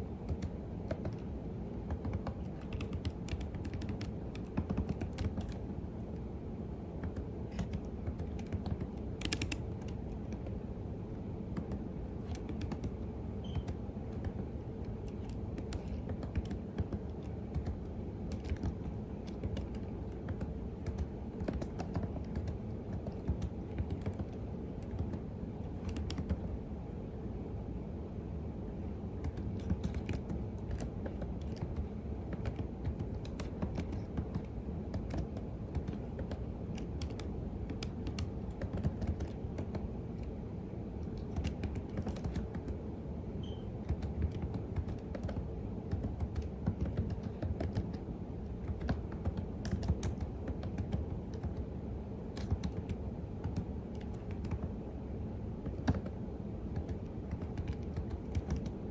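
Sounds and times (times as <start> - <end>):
low background hum: 0.0 - 58.9
typing on computer keyboard: 0.2 - 5.8, 7.0 - 10.6, 11.5 - 26.5, 29.2 - 40.4, 41.0 - 54.9, 55.6 - 58.9.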